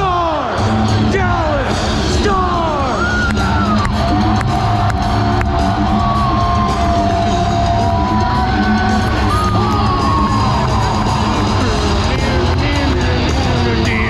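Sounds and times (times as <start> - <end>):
crowd whooping and yelling: 0.0 - 14.0
loud rock music: 0.0 - 14.0.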